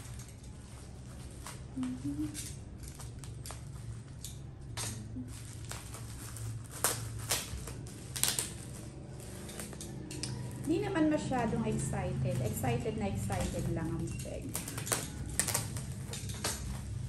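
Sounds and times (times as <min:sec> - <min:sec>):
low hum: 0:00.0 - 0:16.9
bubble wrap rustling and crinkling: 0:00.0 - 0:17.0.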